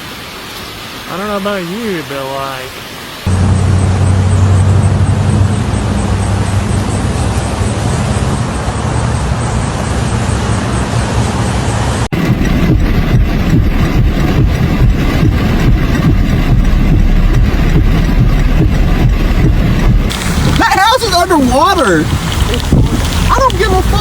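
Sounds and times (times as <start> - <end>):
heavy rain rushing: 0.0 - 24.0
car engine hum: 3.3 - 24.0.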